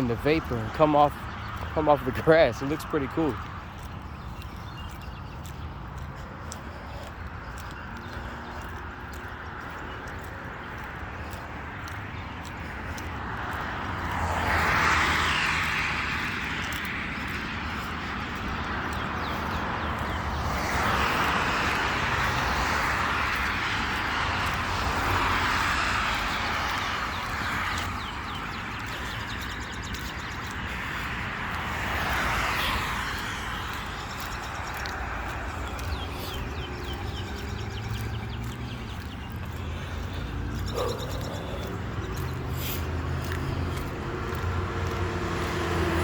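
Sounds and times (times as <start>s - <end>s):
vehicles passing: 0.0s - 46.0s.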